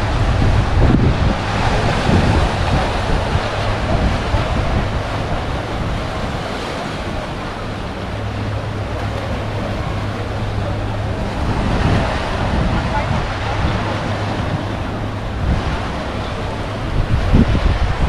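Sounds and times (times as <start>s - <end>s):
surf washing over rocks: 0.0s - 18.0s
wind buffeting microphone: 0.0s - 18.0s.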